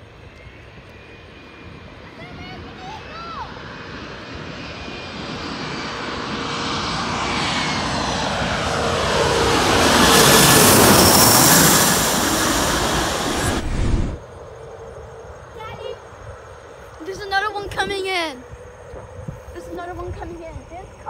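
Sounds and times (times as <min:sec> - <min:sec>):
jet passing low overhead: 0:00.0 - 0:21.0.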